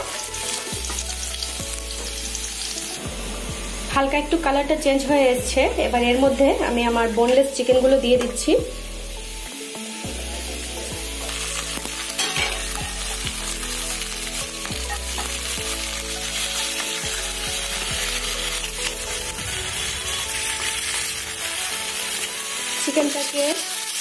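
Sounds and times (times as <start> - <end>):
chicken sizzling in butter: 0.0 - 24.0.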